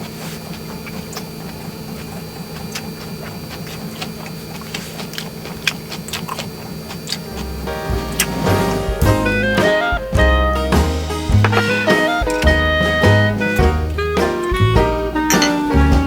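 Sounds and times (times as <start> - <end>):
low hum: 0.4 - 16.0.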